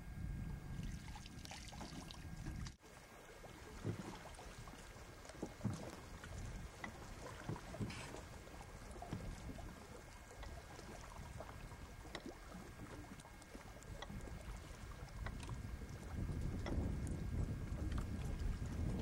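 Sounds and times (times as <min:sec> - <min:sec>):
low steady rumble: 0:00.0 - 0:19.0
water splashing and trickling: 0:00.7 - 0:19.0.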